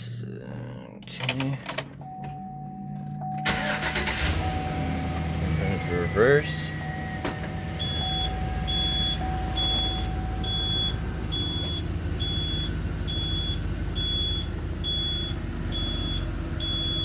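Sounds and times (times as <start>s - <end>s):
engine idling: 2.0s - 17.0s
reverse warning beeps: 2.0s - 17.0s.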